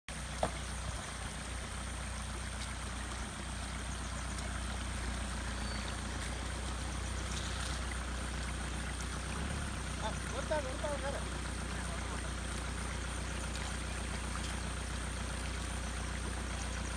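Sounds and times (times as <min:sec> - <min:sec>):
low steady hum: 0:00.1 - 0:16.9
stream water flowing: 0:00.1 - 0:16.9.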